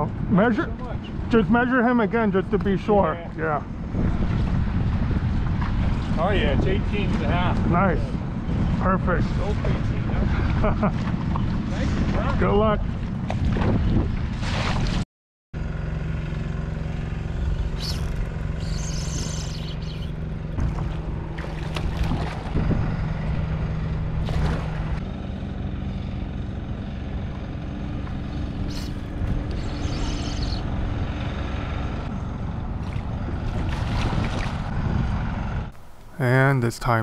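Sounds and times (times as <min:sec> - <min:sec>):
boat engine droning: 0:00.0 - 0:14.8, 0:15.6 - 0:37.0
wind rumble on microphone: 0:02.2 - 0:15.0, 0:17.2 - 0:25.2, 0:25.9 - 0:36.0.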